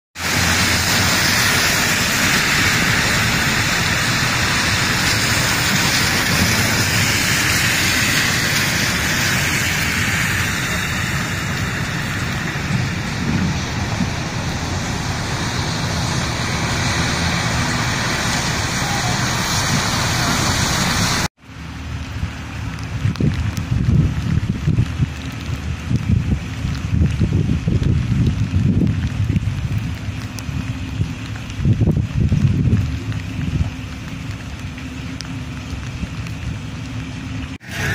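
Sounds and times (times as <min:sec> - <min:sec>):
car tyres on wet street: 0:00.2 - 0:37.9
rain: 0:00.2 - 0:37.9.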